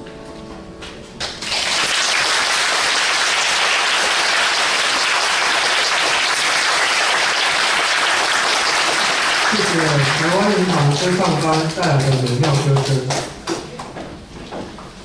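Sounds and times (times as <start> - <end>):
audience applauding: 1.2 - 13.9.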